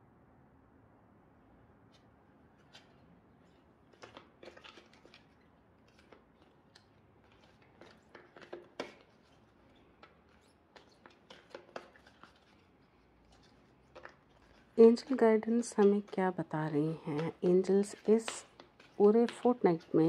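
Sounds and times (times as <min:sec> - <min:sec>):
cards being shuffled: 0:02.6 - 0:20.0.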